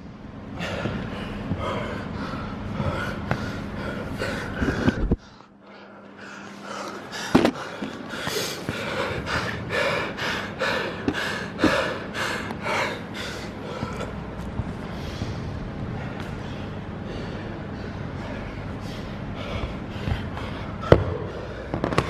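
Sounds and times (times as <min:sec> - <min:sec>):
man panting hard: 0:00.6 - 0:14.2, 0:14.8 - 0:22.0.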